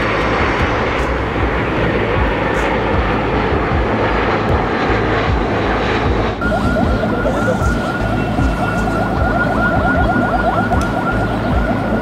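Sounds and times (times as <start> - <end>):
city noise: 0.0 - 12.0
fast repeating warble: 0.0 - 12.0
jet airliner flying overhead: 0.0 - 12.0
steady high tone: 0.0 - 12.0.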